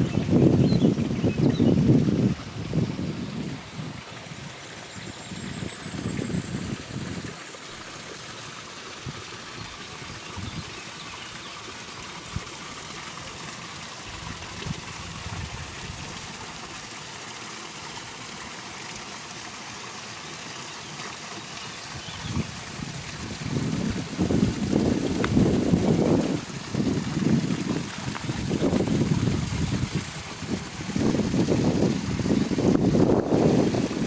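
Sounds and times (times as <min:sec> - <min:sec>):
water splashing over small waterfall: 0:00.0 - 0:34.0.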